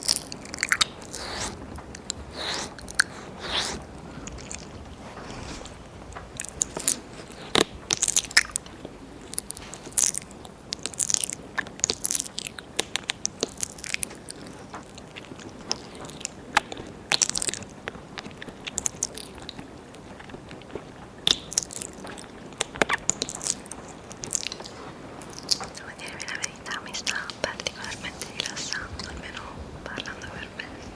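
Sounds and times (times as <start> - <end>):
wet tongue licks and lip smacks: 0.0 - 4.8, 6.4 - 29.1.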